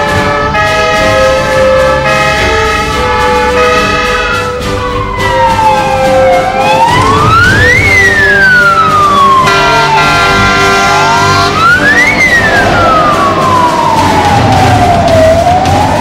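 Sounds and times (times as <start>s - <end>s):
engine and traffic rumble: 0.0s - 16.0s
fire engine siren wailing: 0.0s - 16.0s.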